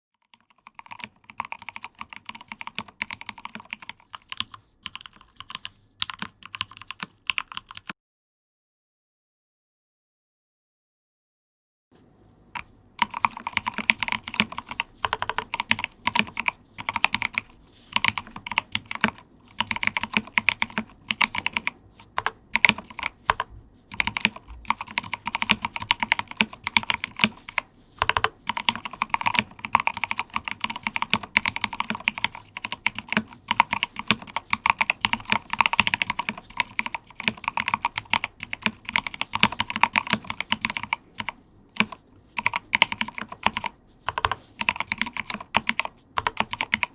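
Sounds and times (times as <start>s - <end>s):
mechanical keyboard typing: 0.2s - 8.0s, 12.6s - 46.9s.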